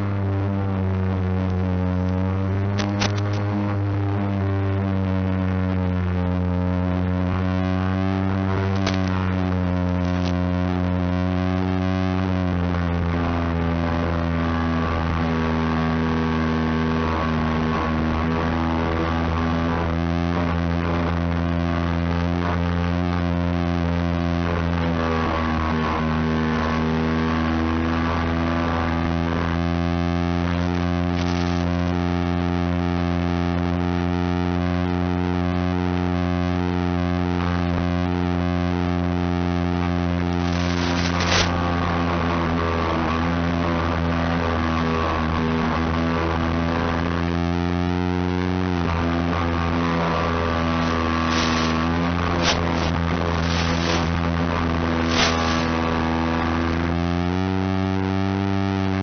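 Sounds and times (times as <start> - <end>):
electric motor and propeller droning: 0.0 - 59.0.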